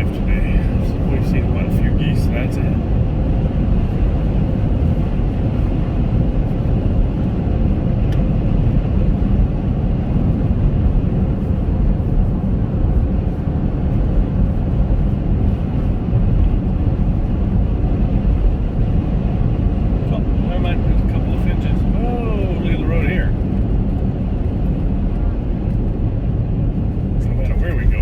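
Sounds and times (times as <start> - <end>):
car interior road rumble: 0.0 - 28.0.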